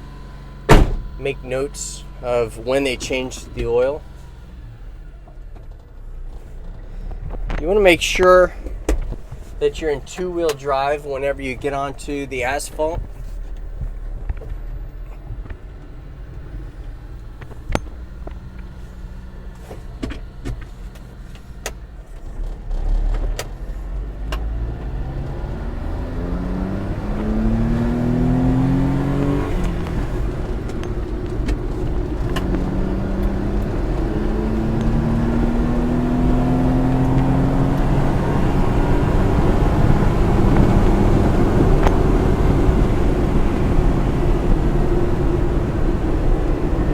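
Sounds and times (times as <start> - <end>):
small truck engine accelerating: 0.0 - 46.9.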